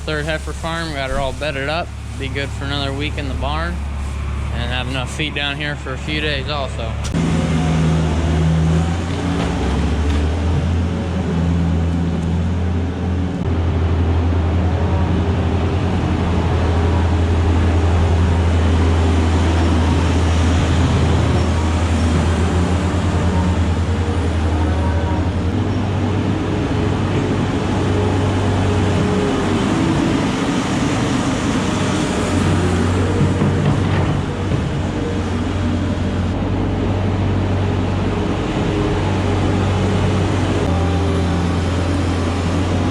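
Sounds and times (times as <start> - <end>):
vehicle engine droning: 0.0 - 42.9.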